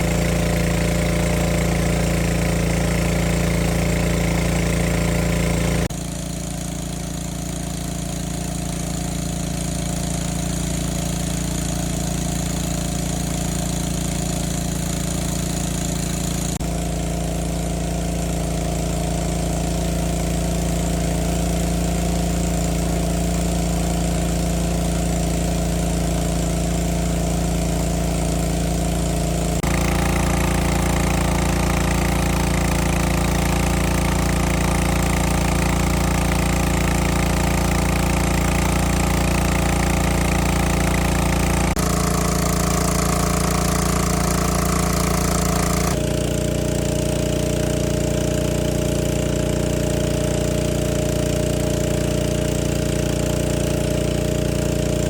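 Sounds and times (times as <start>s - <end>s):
small boat engine running: 0.0s - 55.0s.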